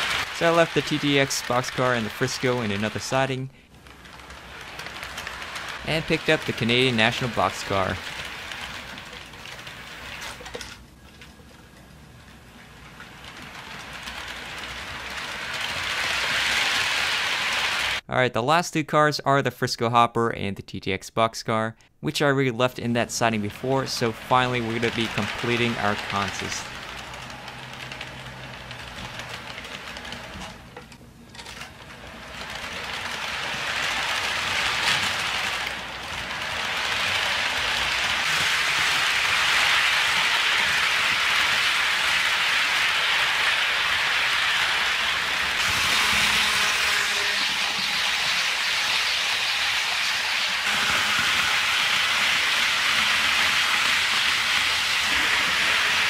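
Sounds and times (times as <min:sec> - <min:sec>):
model locomotive motor: 0:00.0 - 0:10.8, 0:13.0 - 0:18.0, 0:23.2 - 0:30.6, 0:31.6 - 0:56.0
model train wheels rolling: 0:00.0 - 0:18.0, 0:22.8 - 0:56.0.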